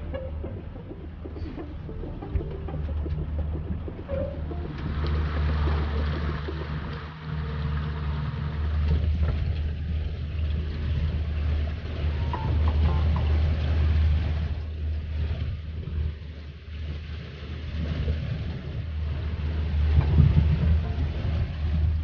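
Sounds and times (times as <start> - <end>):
boat engine droning: 0.0 - 22.0
wind: 0.0 - 22.0.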